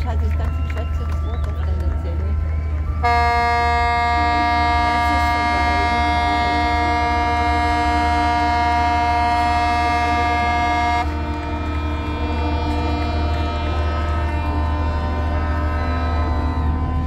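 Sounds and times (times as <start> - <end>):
ship engine hum: 0.0 - 17.0
lower ship's horn: 2.9 - 17.0
ship's horn blast: 3.0 - 17.0.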